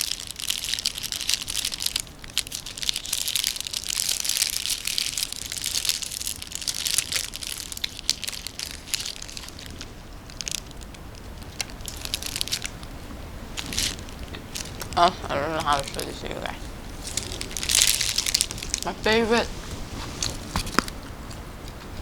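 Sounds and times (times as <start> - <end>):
snack wrapper crinkling: 0.0 - 21.4.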